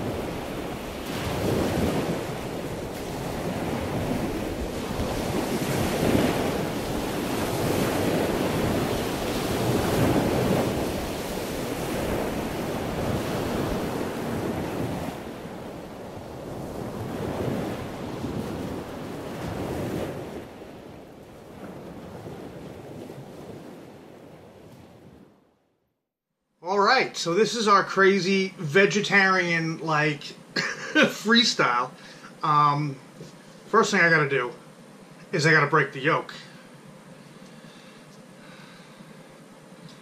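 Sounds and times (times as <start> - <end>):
rushing surf-like noise: 0.0 - 23.8, 26.7 - 40.0.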